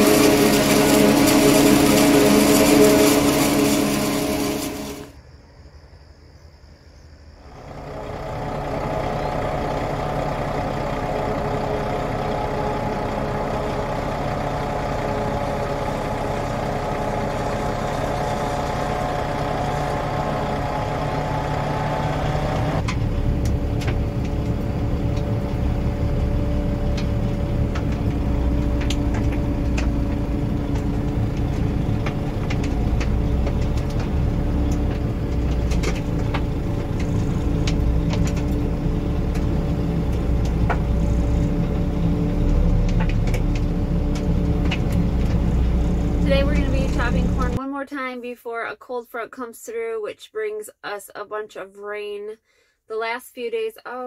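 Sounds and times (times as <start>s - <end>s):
diesel engine running: 0.0s - 5.2s, 7.4s - 47.7s.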